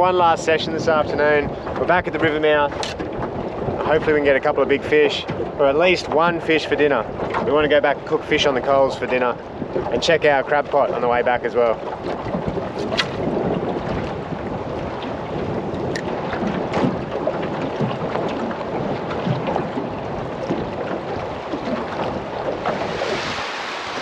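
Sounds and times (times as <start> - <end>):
water lapping around boat: 0.0 - 24.0
wind buffeting microphone: 0.0 - 24.0.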